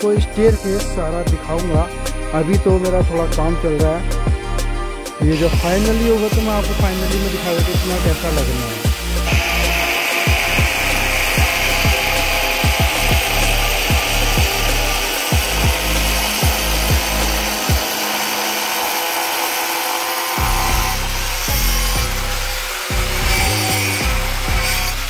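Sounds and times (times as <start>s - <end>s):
music with thudding beat: 0.0s - 18.1s, 20.4s - 25.0s
angle grinder cutting board: 0.0s - 25.0s.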